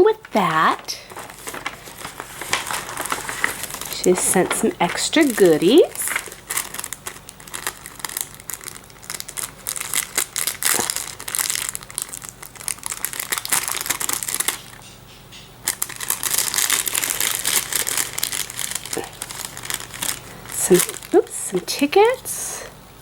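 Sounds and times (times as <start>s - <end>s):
packaging crinkling and rustling: 0.1s - 15.0s, 15.6s - 22.2s.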